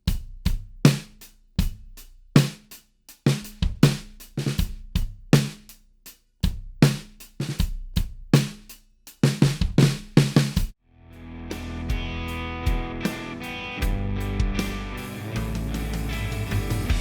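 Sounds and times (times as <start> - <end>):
drum kit groove: 0.0 - 10.8, 11.5 - 17.0.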